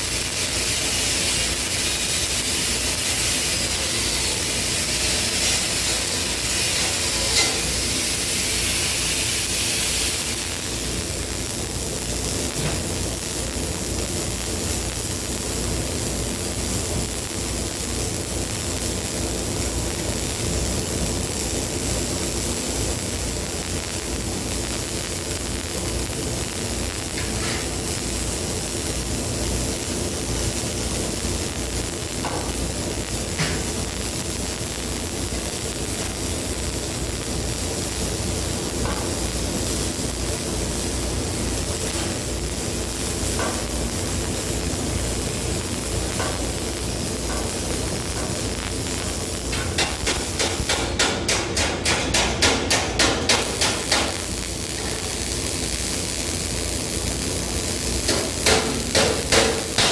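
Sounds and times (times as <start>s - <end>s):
mechanical hiss and hum: 0.0s - 59.9s.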